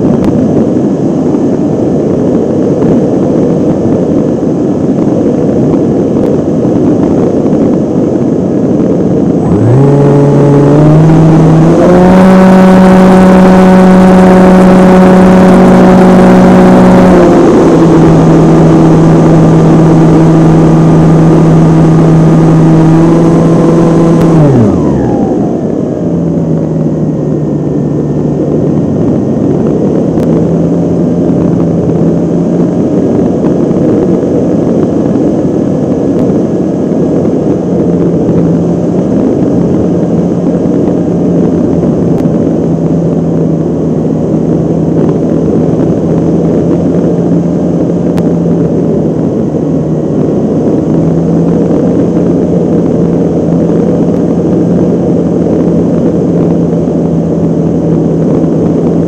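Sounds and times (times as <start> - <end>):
model airplane motor drone: 0.0 - 59.0
wind rush over microphone: 0.0 - 59.0.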